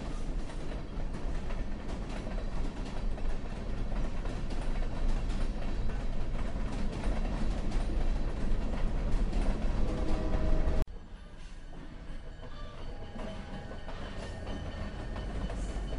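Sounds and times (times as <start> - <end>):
wheels clattering on rail: 0.0 - 10.8, 11.6 - 15.9
train rumbling on track: 0.0 - 15.9.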